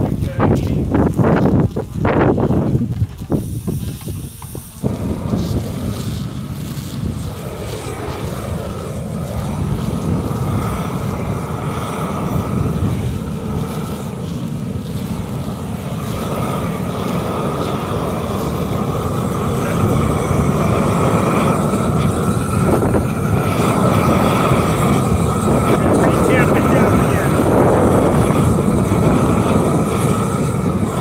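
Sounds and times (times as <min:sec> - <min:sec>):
machine engine running: 0:04.8 - 0:31.0.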